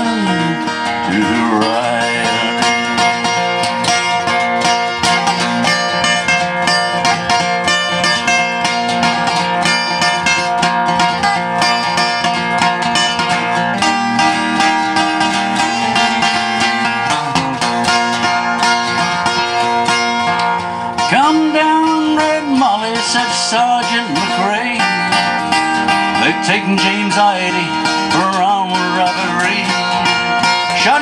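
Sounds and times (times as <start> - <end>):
acoustic plucked strings: 0.0 - 31.0.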